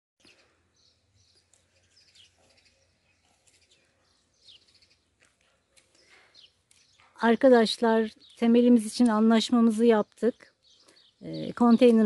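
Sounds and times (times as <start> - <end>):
faint birdsong: 0.2 - 12.0
outdoor background noise: 0.2 - 12.0.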